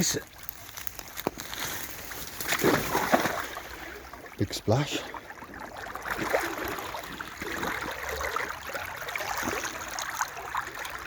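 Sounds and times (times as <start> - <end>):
boots wading through water: 0.0 - 11.0
brook water running: 0.0 - 11.0.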